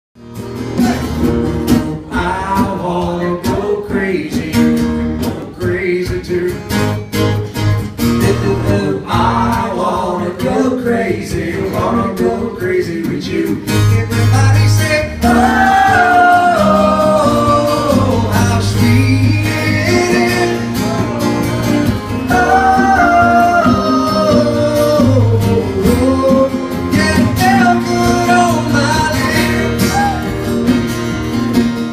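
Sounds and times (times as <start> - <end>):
strummed acoustic guitars: 0.2 - 31.9
man singing: 2.1 - 6.8, 8.1 - 30.4.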